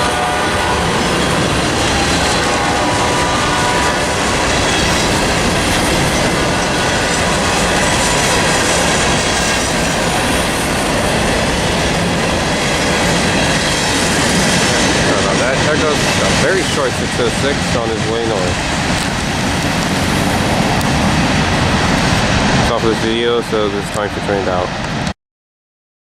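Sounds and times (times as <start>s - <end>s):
freight train wheels clacking: 0.0s - 24.1s.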